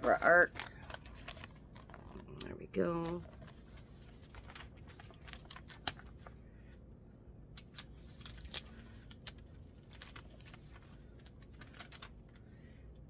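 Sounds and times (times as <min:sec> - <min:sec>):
magazine pages turning: 0:00.0 - 0:06.4, 0:07.4 - 0:12.5.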